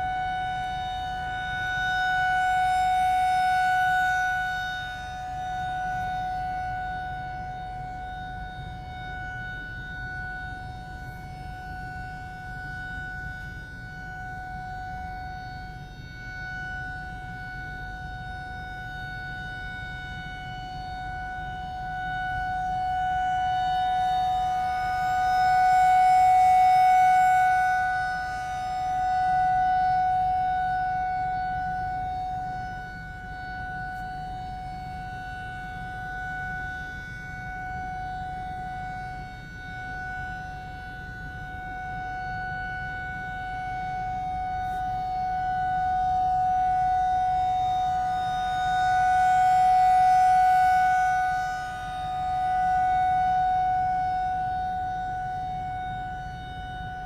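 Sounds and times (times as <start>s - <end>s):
rotating warning siren: 0.0s - 57.0s.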